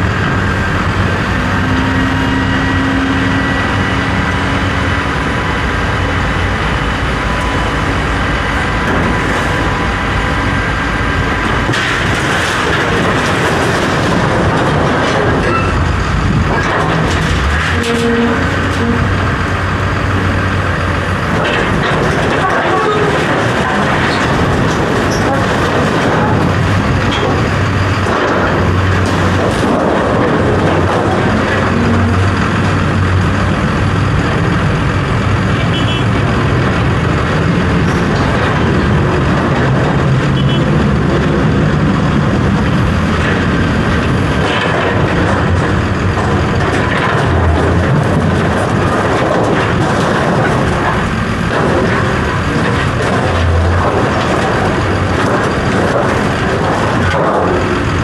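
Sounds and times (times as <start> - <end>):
knocks and clanks: 0.0 - 58.0
large engine running: 0.0 - 58.0.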